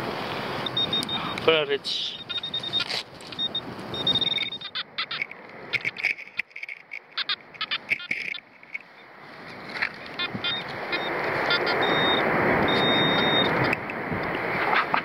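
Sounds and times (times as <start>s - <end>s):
metal detector beeps and chirps: 0.6s - 9.1s, 10.2s - 13.9s.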